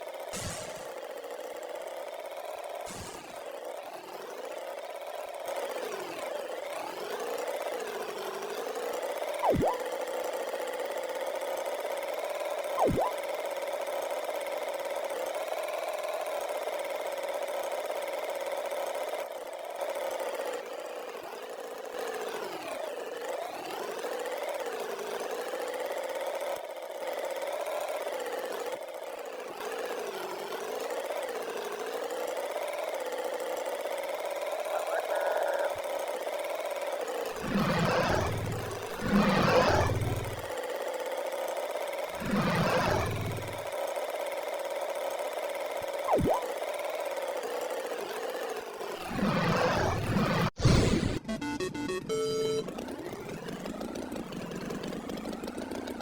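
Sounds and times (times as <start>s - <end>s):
cartoon tractor engine hum: 0.0s - 56.0s.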